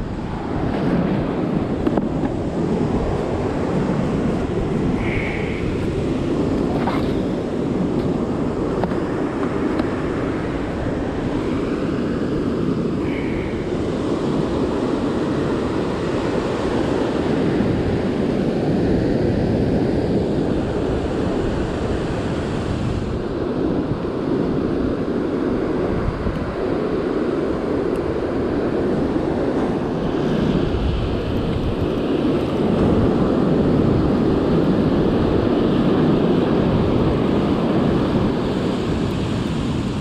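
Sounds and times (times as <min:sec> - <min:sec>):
surf breaking on a beach: 0:00.0 - 0:40.0
wind rumbling on microphone: 0:00.0 - 0:40.0.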